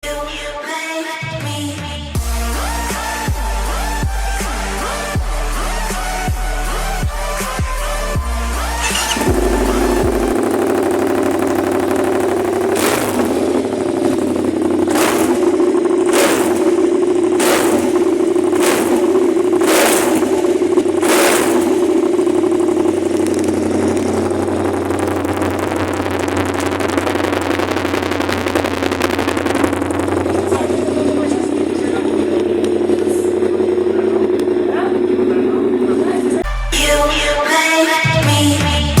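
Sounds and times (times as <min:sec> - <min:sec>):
motorcycle engine idling and revving: 0:00.0 - 0:00.6, 0:01.2 - 0:39.0.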